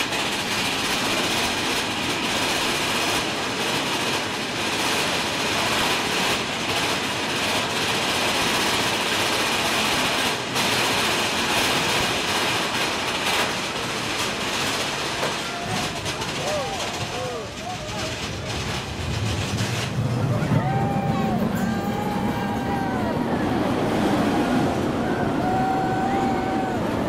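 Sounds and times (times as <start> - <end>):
roller coaster rattling on track: 0.0 - 27.0.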